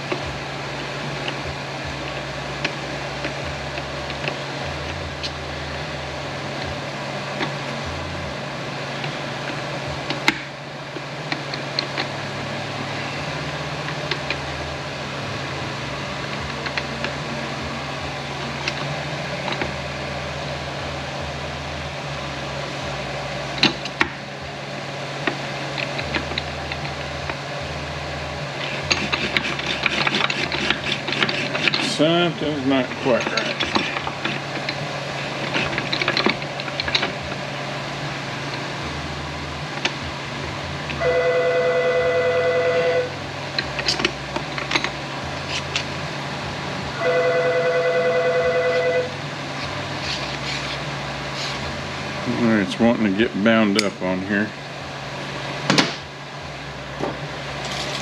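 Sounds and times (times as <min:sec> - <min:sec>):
workshop machinery hum: 0:00.0 - 0:58.0.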